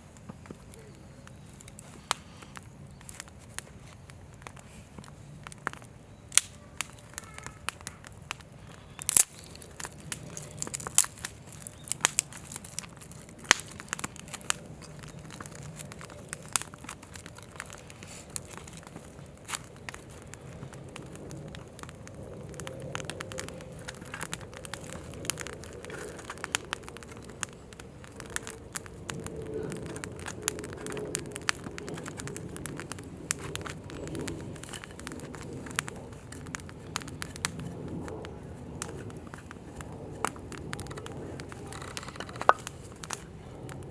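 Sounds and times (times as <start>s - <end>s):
campfire crackling and popping: 0.0s - 43.9s
low rush of flame: 0.0s - 43.9s.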